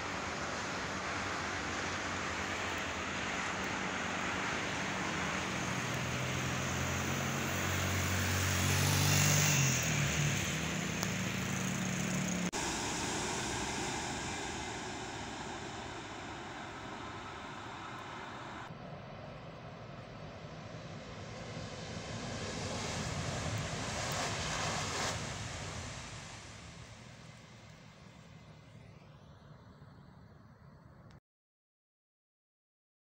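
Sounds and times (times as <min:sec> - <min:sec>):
high-speed train whooshing past: 0:00.0 - 0:29.6.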